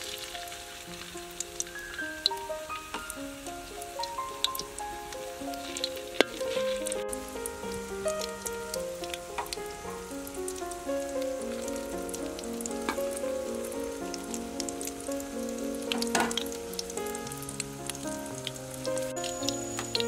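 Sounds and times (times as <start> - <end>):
background music: 0.0 - 20.0
mushrooms frying in oil: 0.0 - 20.0
sharp crackles of frying: 0.0 - 20.0.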